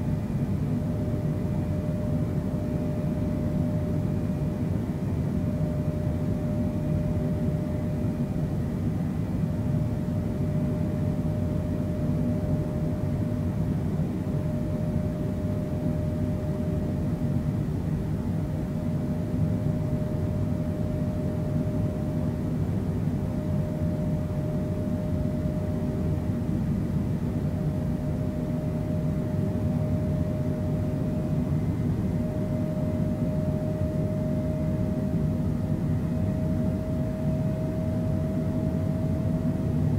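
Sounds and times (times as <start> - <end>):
jet engines in cabin: 0.0 - 39.9.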